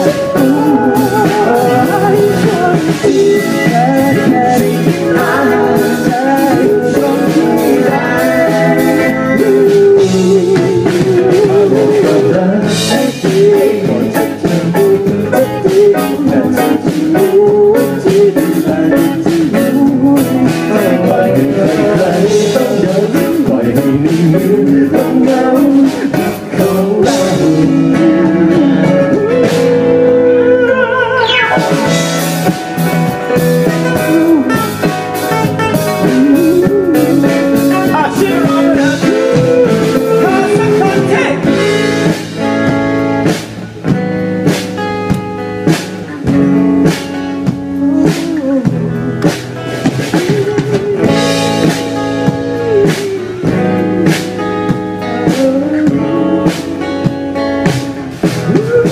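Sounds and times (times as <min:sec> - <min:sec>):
live blues band playing: 0:00.0 - 0:58.9.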